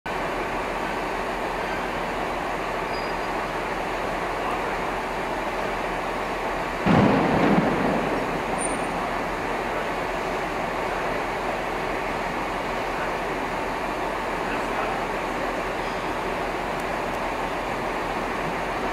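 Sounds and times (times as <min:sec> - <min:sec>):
distant diesel train rumble: 0:00.1 - 0:18.9.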